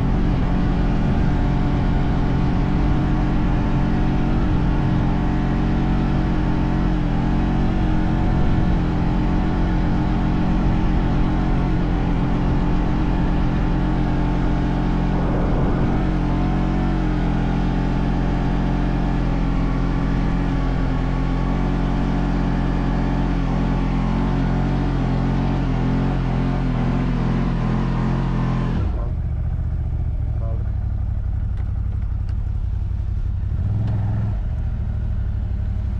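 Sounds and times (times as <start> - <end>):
atv engine running: 0.0 - 35.9.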